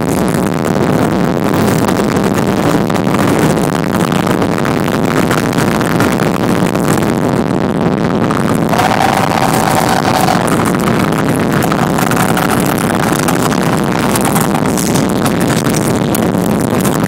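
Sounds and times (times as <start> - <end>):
loud distorted live rock music: 0.0 - 17.0.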